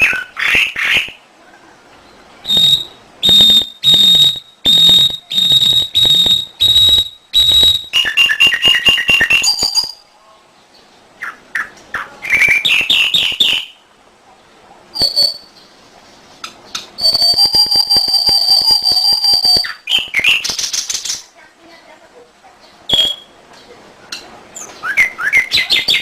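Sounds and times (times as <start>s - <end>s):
canary singing trills: 0.0s - 10.1s, 10.7s - 13.8s, 14.9s - 21.4s, 22.6s - 26.0s.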